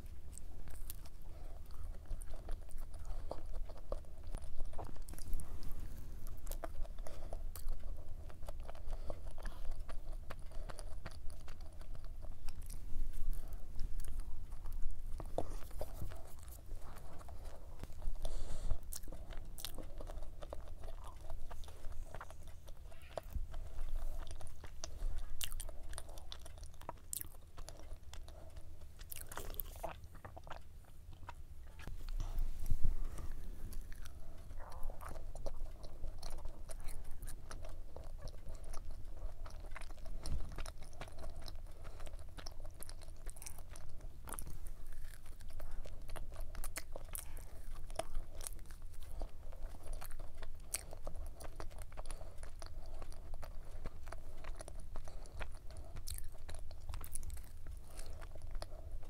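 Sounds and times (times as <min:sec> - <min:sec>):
crunchy chewing and biting: 0:00.0 - 0:59.0.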